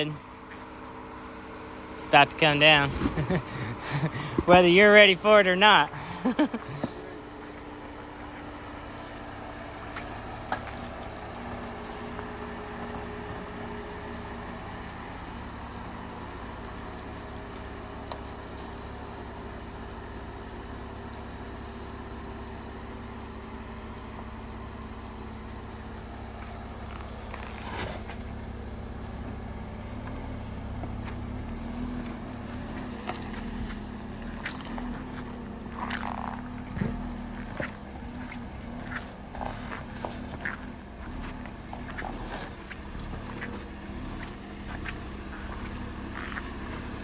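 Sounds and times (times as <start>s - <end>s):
pickup engine running low: 0.0s - 47.0s.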